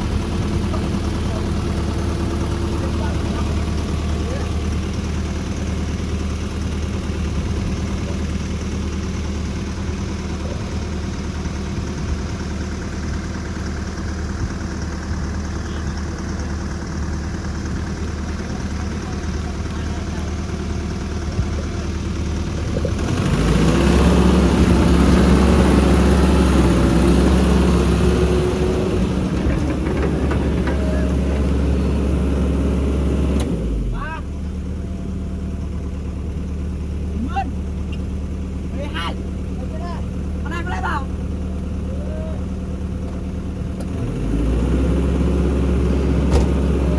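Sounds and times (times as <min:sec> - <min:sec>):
heavy diesel engine revving: 0:00.0 - 0:46.9.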